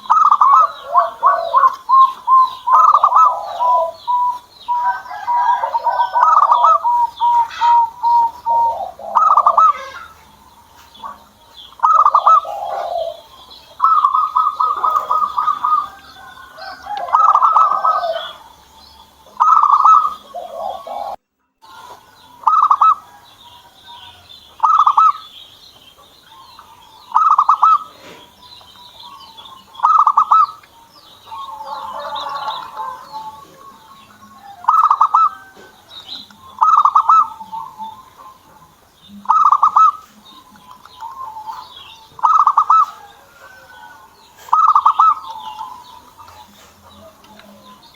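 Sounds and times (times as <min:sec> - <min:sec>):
dove cooing: 0:00.0 - 0:25.3, 0:26.3 - 0:47.9
small birds chirping: 0:00.0 - 0:47.9.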